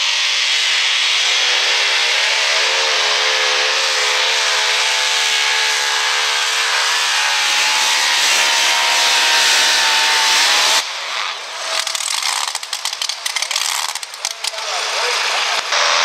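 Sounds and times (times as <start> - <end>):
truck engine at full throttle: 0.0 - 16.0.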